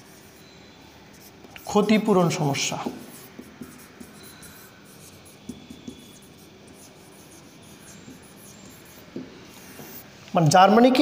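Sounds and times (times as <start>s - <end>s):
marker scratching on whiteboard: 0.0s - 10.1s.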